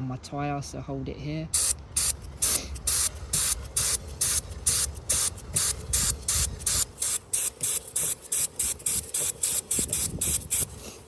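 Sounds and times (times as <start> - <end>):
aerosol spray hissing bursts: 1.6 - 11.0.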